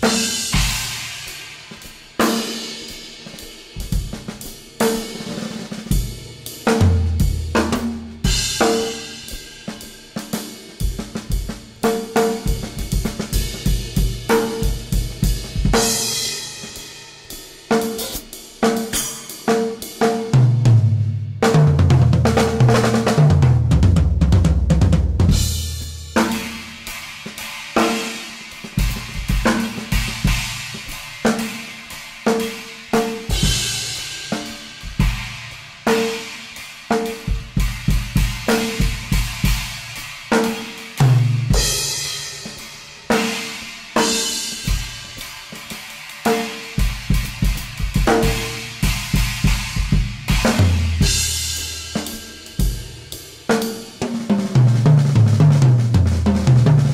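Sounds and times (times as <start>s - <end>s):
drum kit groove with cymbals: 0.0s - 56.9s.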